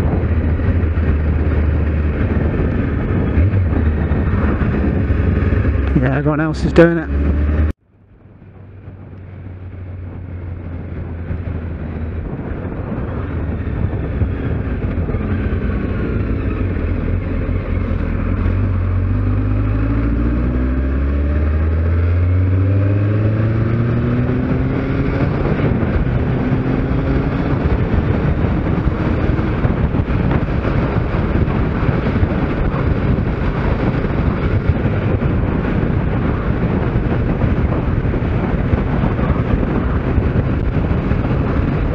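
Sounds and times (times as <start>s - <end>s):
motorcycle engine accelerating: 0.0s - 41.9s
wind noise: 0.0s - 41.9s.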